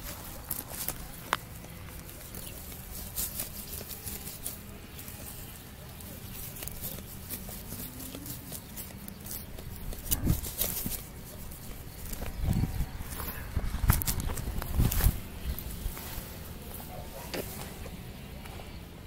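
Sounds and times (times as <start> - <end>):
rustling of fur and grass: 0.0 - 19.0.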